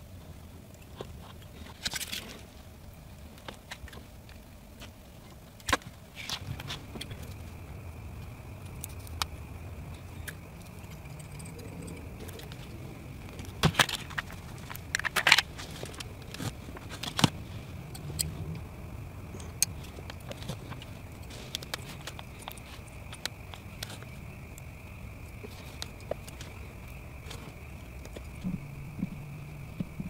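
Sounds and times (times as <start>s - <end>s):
faint steady whine: 0.0s - 30.0s
low steady hum: 0.0s - 30.0s.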